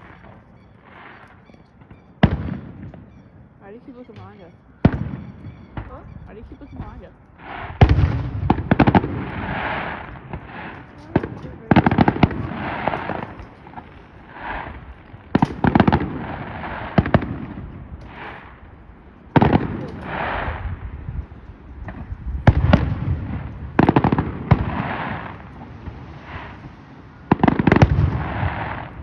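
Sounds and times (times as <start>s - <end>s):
fireworks bangs: 0.0s - 21.2s, 21.8s - 29.0s
fireworks crackle and rumble: 0.0s - 29.0s.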